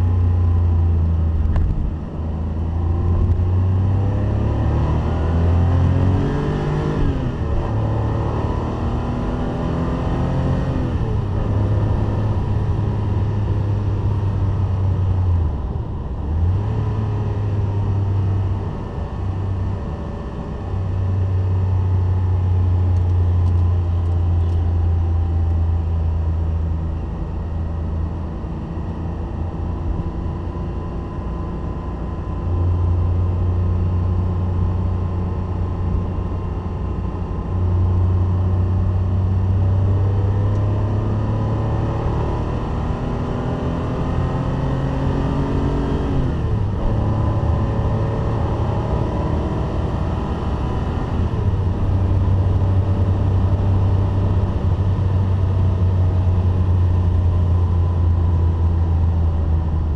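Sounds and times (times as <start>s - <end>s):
car engine drone from inside cabin: 0.0s - 59.9s.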